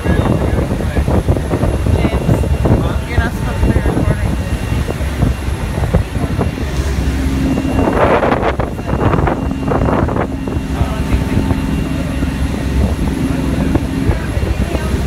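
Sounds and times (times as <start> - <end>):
boat engine droning: 0.0 - 15.0
wind and water noise: 0.0 - 15.0.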